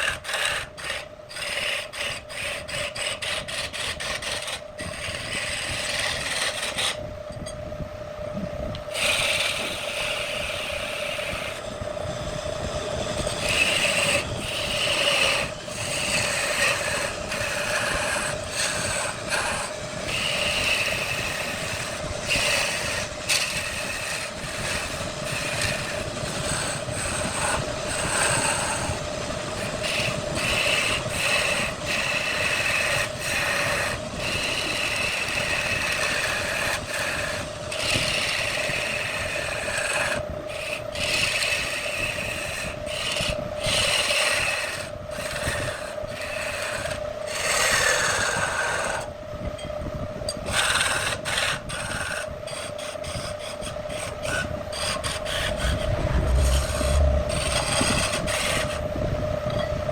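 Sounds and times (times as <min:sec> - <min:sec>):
wood lathe motor humming: 0:00.0 - 0:07.5, 0:08.7 - 0:59.7
tool scraping spinning wood: 0:00.0 - 0:07.6, 0:08.4 - 0:59.9.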